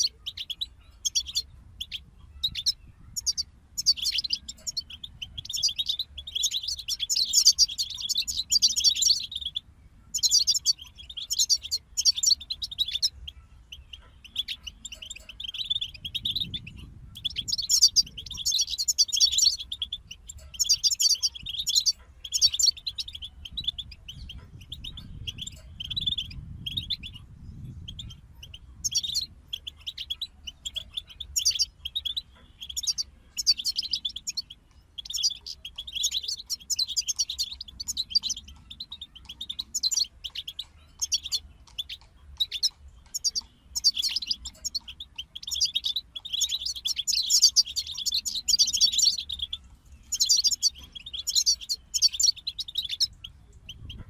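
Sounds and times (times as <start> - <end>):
finches singing chirps and trills: 0.0 - 54.0.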